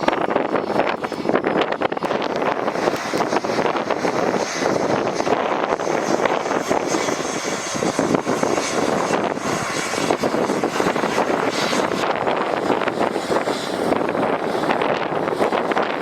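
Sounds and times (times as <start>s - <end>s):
blizzard wind on microphone: 0.0s - 16.0s.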